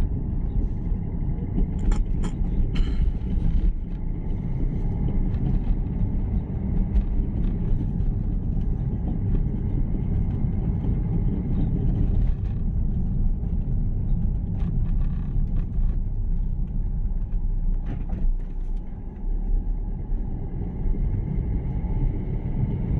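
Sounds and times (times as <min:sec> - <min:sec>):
vehicle driving on road: 0:00.0 - 0:22.9.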